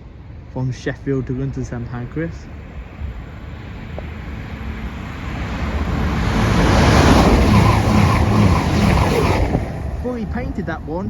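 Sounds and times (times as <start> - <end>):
low engine hum: 0.0 - 11.0
train speeding through station: 1.1 - 11.0.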